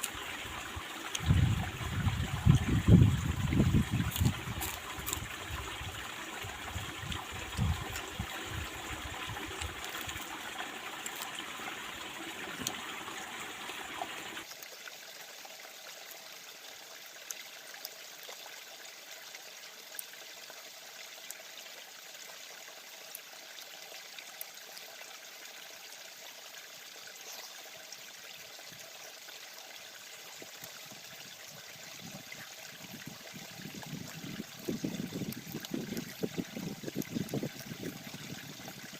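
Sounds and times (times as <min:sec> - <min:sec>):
small stream babbling: 0:00.0 - 0:38.9.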